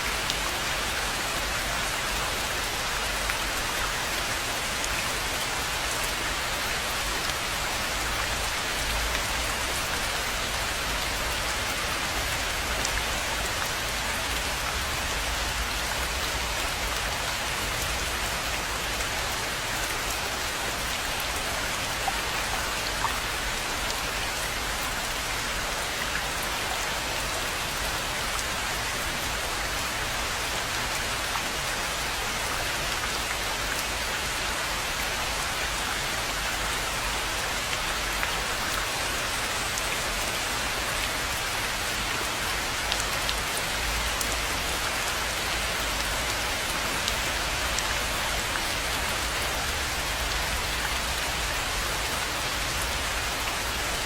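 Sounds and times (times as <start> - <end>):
rain falling on a pond: 0.0 - 54.0.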